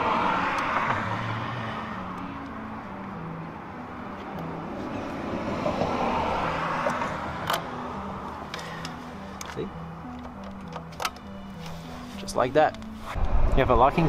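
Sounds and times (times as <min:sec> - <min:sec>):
passing cars: 0:00.0 - 0:14.0.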